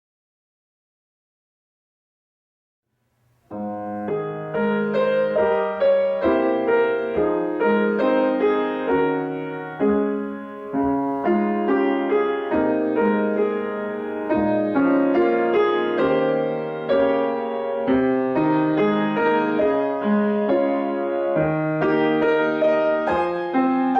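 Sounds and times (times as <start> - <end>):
solo piano playing: 3.5 - 23.9.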